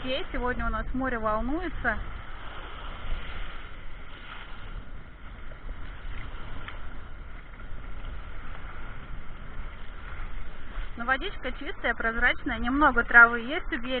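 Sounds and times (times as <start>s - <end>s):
muffled waves breaking on shore: 0.0s - 14.0s.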